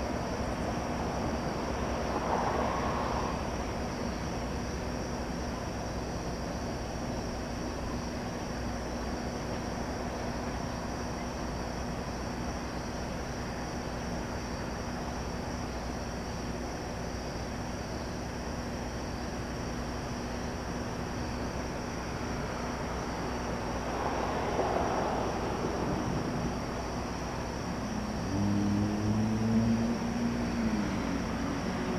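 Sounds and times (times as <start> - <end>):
distant diesel locomotive rumble: 0.0 - 31.9.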